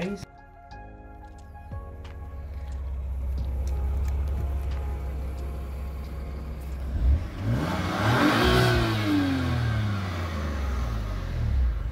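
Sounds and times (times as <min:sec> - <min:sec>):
car engine idling and revving: 0:01.1 - 0:11.9.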